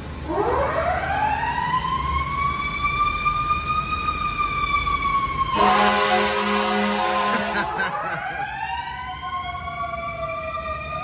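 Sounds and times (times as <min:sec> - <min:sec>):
fire engine siren wailing: 0:00.1 - 0:11.0.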